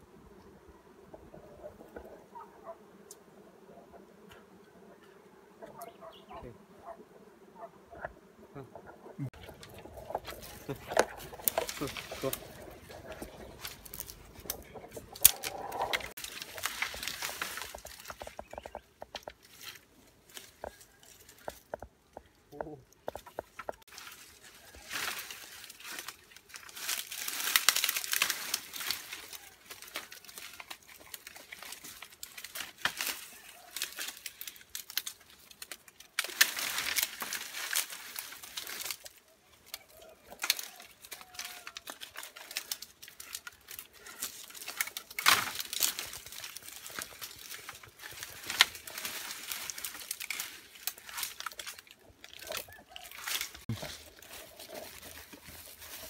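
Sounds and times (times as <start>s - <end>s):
bamboo leaves rustling and crackling: 9.2s - 56.0s.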